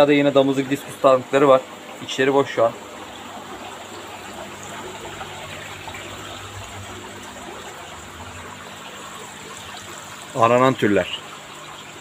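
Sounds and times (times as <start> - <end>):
water rushing and trickling: 0.0 - 12.0.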